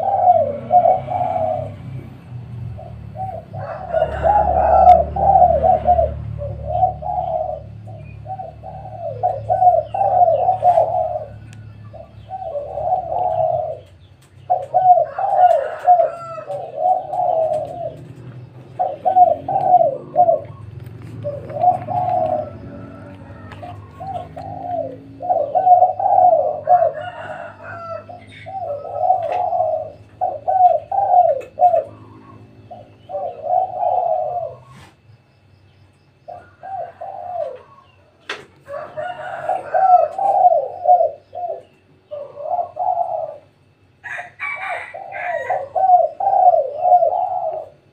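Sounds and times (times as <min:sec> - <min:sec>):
doves cooing: 0:00.0 - 0:47.9.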